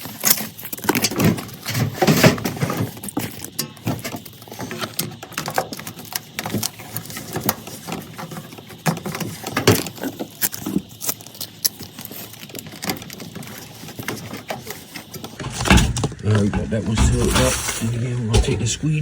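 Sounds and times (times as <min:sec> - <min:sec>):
tape crinkling on sheet metal: 0:00.0 - 0:18.8.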